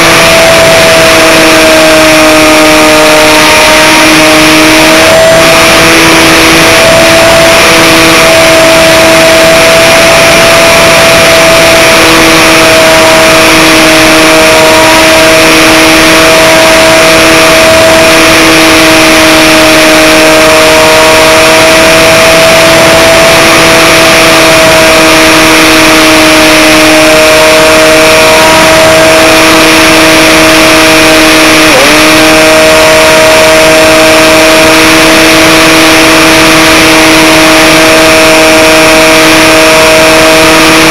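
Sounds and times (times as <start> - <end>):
model airplane motor whine: 0.0 - 40.9.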